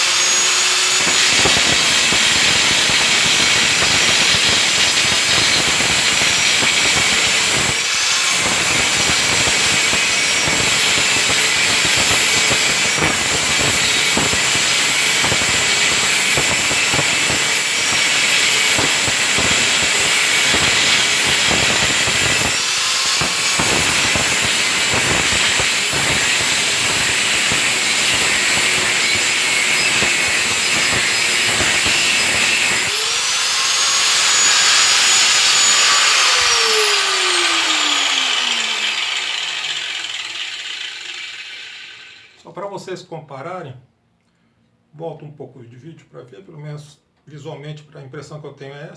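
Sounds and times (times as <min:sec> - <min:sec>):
angle grinder cutting sheet metal: 0:00.0 - 0:42.4.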